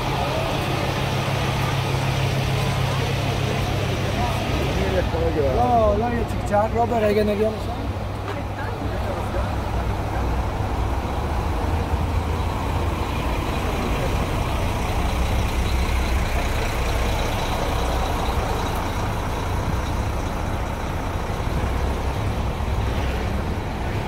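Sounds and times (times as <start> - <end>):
cars passing: 0.0 - 24.0
diesel engine rumbling: 0.0 - 24.0.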